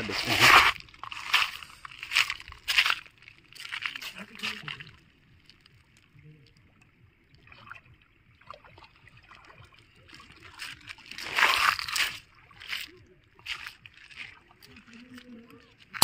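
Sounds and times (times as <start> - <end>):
river water splashing around legs: 0.0 - 6.0, 7.4 - 16.0.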